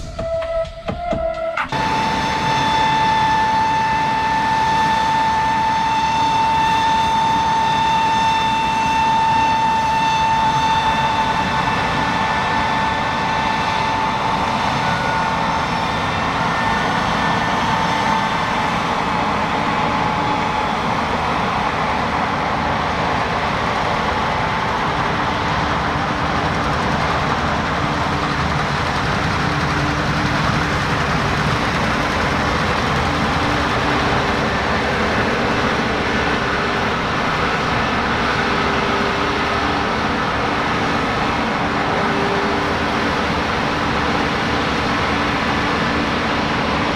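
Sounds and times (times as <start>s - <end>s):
farm machinery engine drone: 1.7s - 46.9s.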